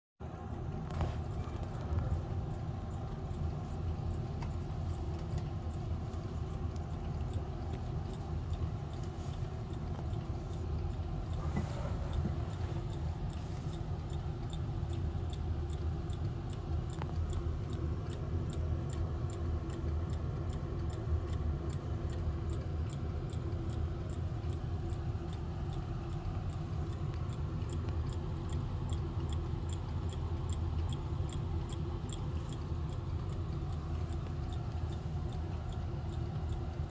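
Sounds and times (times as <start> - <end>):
clock ticking: 0.2 - 36.9.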